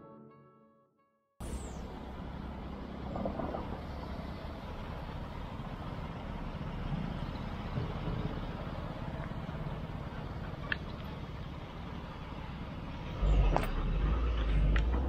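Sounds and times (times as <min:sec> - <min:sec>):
road rumble: 0:01.4 - 0:15.0
vehicles passing: 0:01.4 - 0:15.0.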